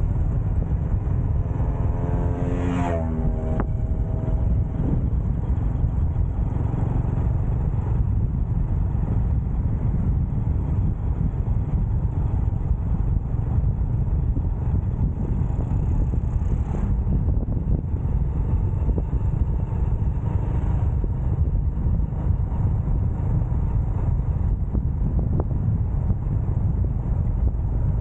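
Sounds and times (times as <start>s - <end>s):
motorcycle engine: 0.0s - 28.0s
road noise: 0.0s - 28.0s
wind rushing on microphone: 0.0s - 28.0s.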